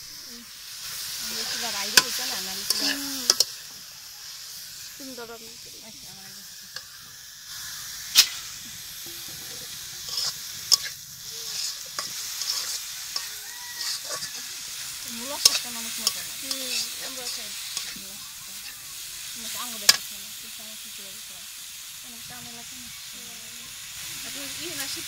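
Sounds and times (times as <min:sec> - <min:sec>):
spatula scraping a wok: 0:00.0 - 0:21.0
greens sizzling in a wok: 0:00.0 - 0:25.0.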